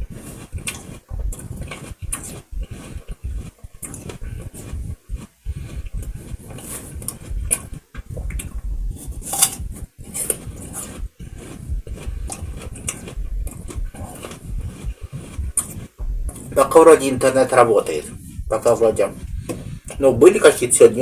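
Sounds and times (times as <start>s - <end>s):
apple crunching while chewing: 0.0s - 21.0s.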